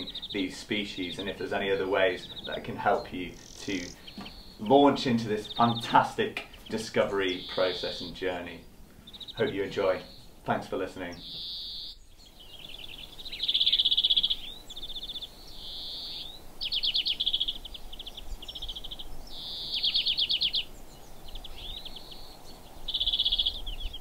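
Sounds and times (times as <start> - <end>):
finch song with trills: 0.0 - 24.0.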